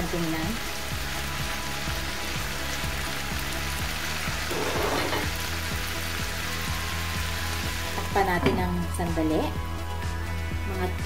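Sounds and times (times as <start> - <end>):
vegetables sizzling in a frying pan: 0.0 - 9.6
background music with steady beat: 0.0 - 11.0.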